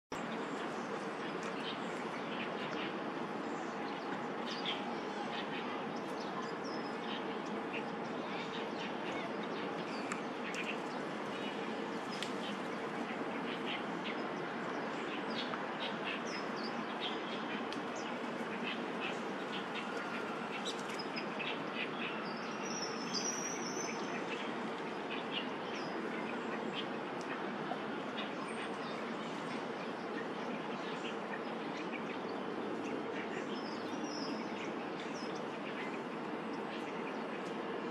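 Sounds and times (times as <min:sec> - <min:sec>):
outdoor ambience hiss: 0:00.2 - 0:37.9.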